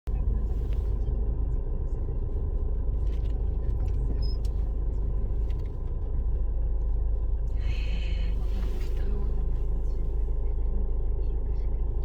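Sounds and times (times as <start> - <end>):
car engine rumble: 0.0 - 12.0.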